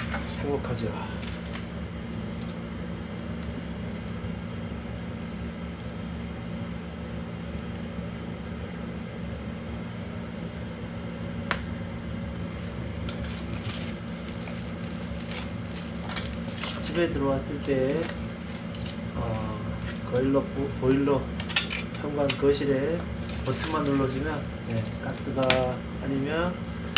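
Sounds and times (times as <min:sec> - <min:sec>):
low steady hum: 0:00.0 - 0:26.9
wood fire popping and crackling: 0:00.0 - 0:26.9.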